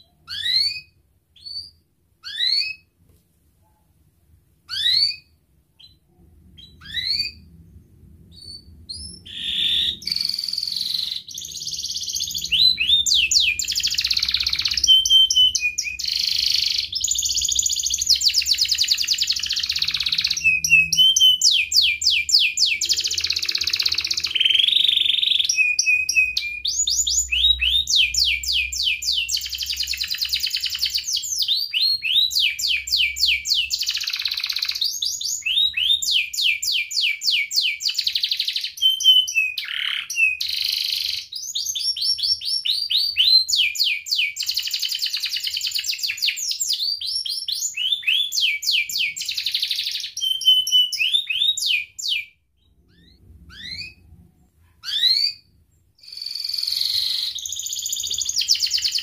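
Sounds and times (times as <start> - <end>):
canary singing fast trills: 0.0 - 2.9, 4.7 - 59.0.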